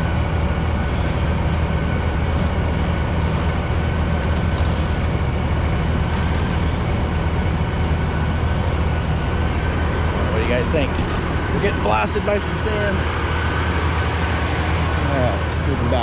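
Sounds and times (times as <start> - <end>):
faint high whine: 0.0 - 16.0
heavy machinery engine drone: 0.0 - 16.0.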